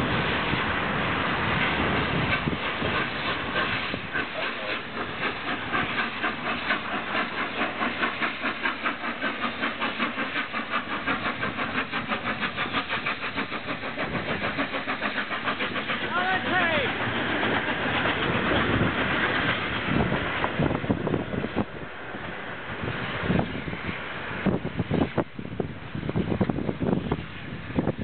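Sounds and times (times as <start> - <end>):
wind buffeting microphone: 0.0 - 8.5, 9.3 - 28.0
steam hiss: 0.0 - 28.0
steam locomotive exhaust beats: 0.0 - 28.0.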